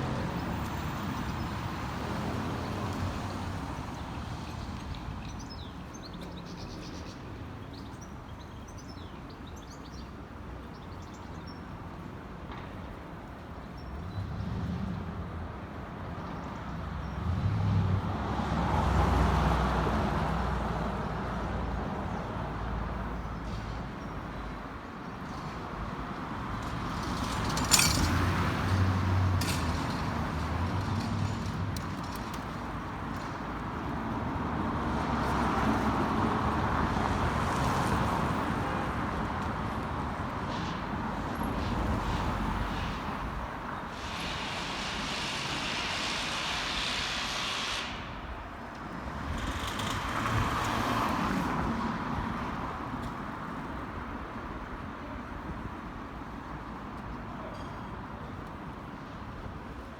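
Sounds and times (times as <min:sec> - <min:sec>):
vehicles passing: 0:00.0 - 0:08.7, 0:11.9 - 0:59.9.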